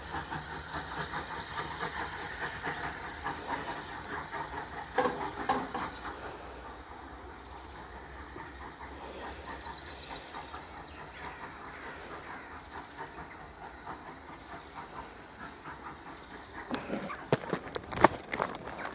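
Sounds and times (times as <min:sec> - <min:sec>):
low train rumble: 0:00.0 - 0:18.9
train wheels clicking over rail joints: 0:00.0 - 0:18.9.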